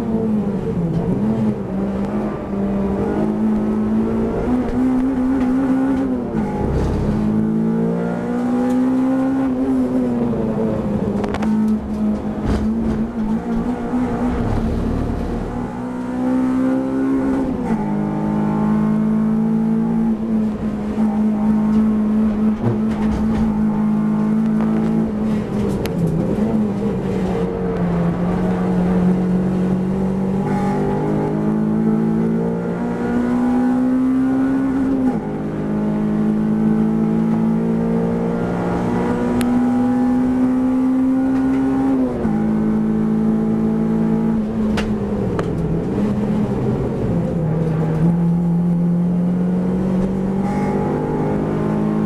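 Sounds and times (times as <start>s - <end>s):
race car engine at high revs: 0.0s - 52.0s.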